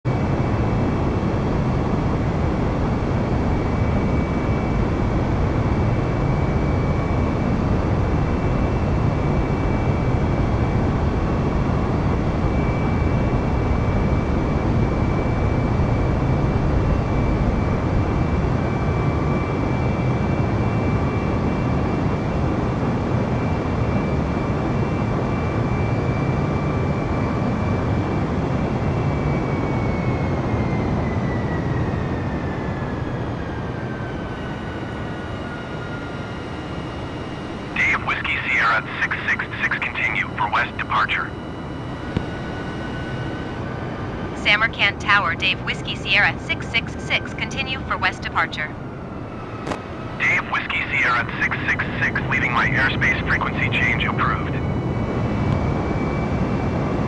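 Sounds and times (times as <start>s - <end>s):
high engine whine: 0.1s - 57.0s
jet engines and airflow rushing: 0.1s - 57.0s.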